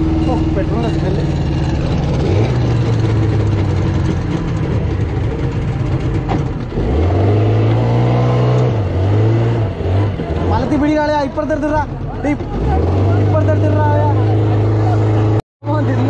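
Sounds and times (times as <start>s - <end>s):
outboard motor running and revving: 0.0s - 16.0s.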